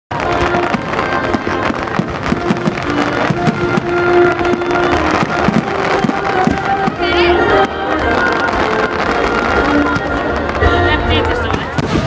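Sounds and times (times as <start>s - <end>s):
fireworks bangs and crackles: 0.1s - 12.0s
music with held notes: 0.1s - 12.0s.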